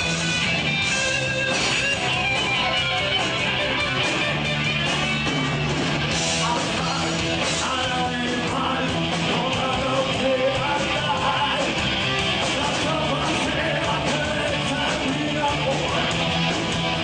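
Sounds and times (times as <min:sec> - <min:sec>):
rock music with electric guitars: 0:00.0 - 0:17.0.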